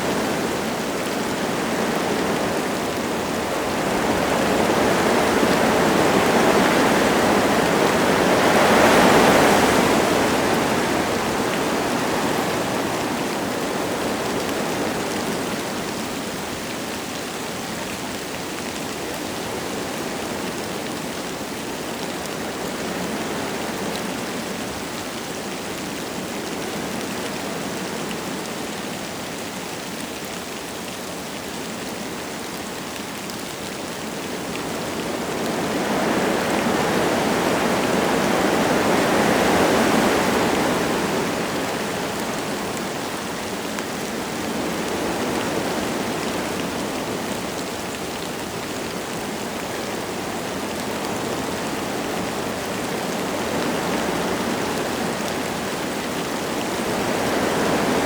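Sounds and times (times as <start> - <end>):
light rain falling: 0.0 - 58.0
wind gusting through trees: 0.0 - 58.0.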